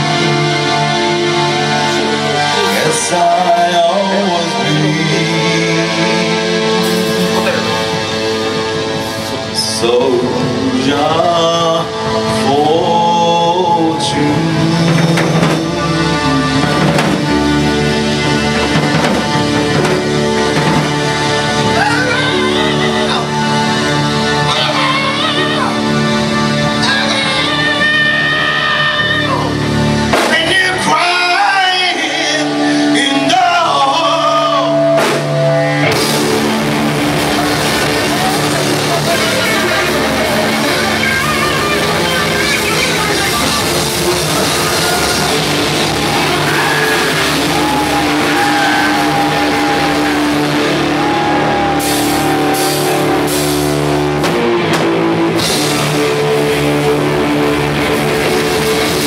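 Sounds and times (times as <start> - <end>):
rock band playing: 0.0 - 59.0
wavering guitar lead line: 0.0 - 59.0.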